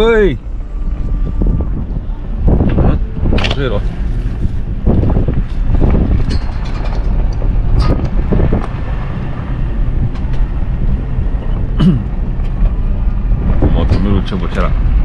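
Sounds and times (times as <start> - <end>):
car engine and tyres rumbling: 0.0 - 15.0
wind buffeting microphone: 0.0 - 15.0.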